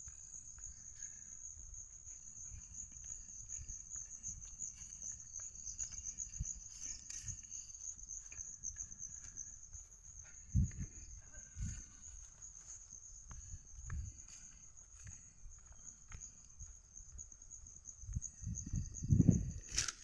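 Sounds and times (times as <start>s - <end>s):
insect trill: 0.0s - 20.0s.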